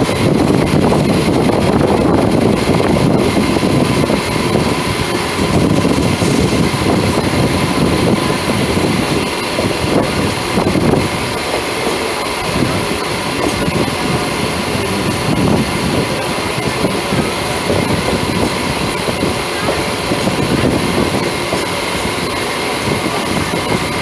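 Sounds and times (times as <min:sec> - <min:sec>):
train rumble: 0:00.0 - 0:24.0
wheels clattering over rail joints: 0:00.0 - 0:24.0.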